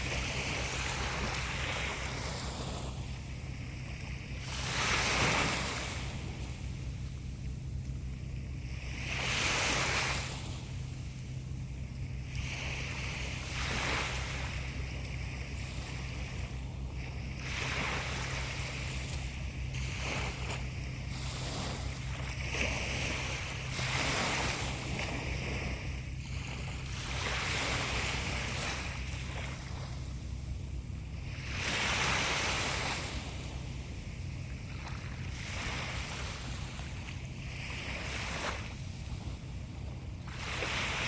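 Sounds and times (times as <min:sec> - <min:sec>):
sea waves breaking: 0:00.0 - 0:41.0
steady low hum: 0:00.0 - 0:41.0.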